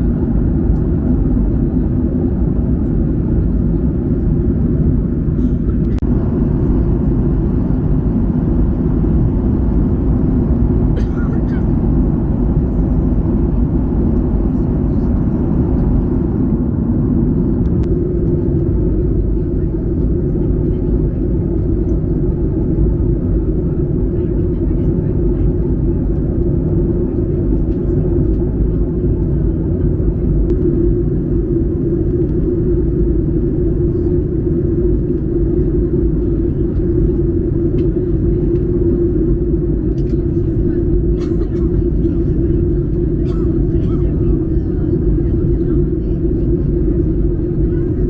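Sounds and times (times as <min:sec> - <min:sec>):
airliner cabin engine rumble: 0:00.0 - 0:48.0
low hum: 0:00.0 - 0:48.0.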